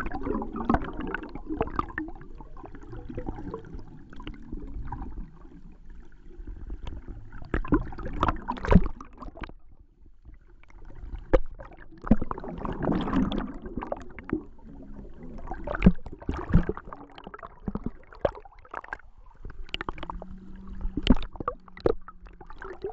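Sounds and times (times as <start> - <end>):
underwater gurgling bubbles: 0.0 - 22.9.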